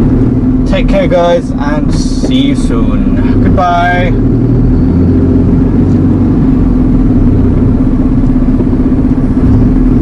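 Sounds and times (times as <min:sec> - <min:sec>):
lorry diesel engine drone: 0:00.0 - 0:10.0
road noise: 0:00.0 - 0:10.0.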